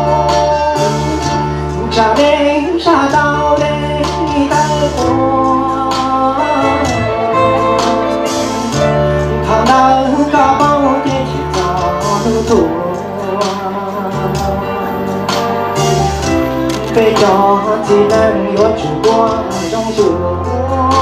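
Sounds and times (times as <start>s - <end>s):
man singing into a microphone: 0.0s - 15.3s, 16.7s - 21.0s
instrumental backing music: 0.0s - 21.0s.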